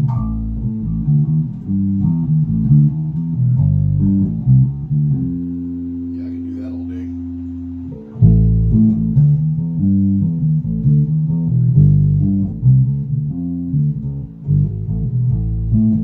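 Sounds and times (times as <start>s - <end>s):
electric bass plucked notes: 0.0s - 16.0s.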